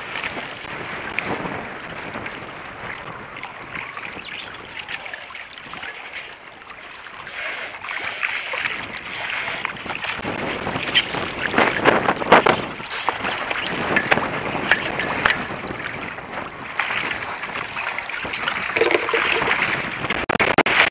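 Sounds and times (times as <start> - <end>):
wind on microphone: 0.0 - 5.9, 7.2 - 20.9
water lapping against boat hull: 0.0 - 20.8.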